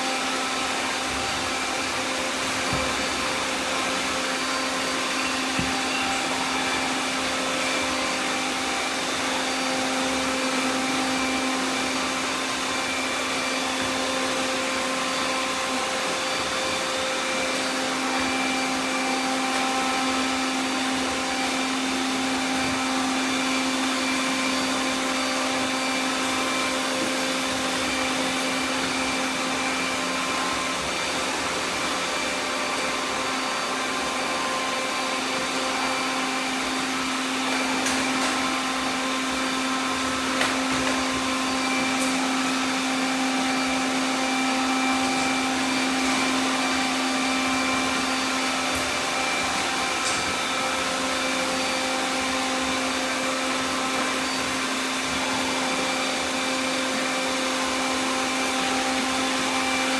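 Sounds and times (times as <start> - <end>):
robot vacuums whirring: 0.0 - 59.9.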